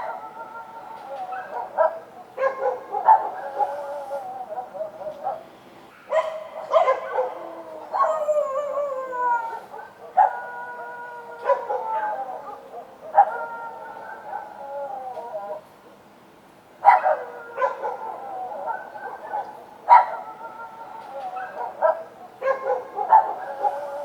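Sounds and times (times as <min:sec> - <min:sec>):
dogs howling: 0:00.0 - 0:05.5, 0:06.1 - 0:15.8, 0:16.8 - 0:24.0
dogs barking: 0:01.1 - 0:08.8, 0:09.5 - 0:15.5, 0:16.8 - 0:24.0.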